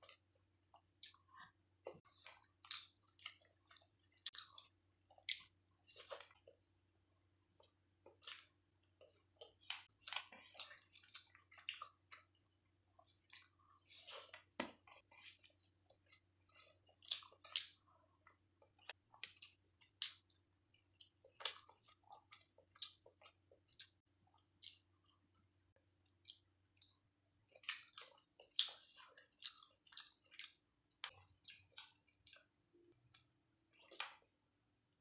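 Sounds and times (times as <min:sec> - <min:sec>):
person chewing food: 0:00.0 - 0:34.5.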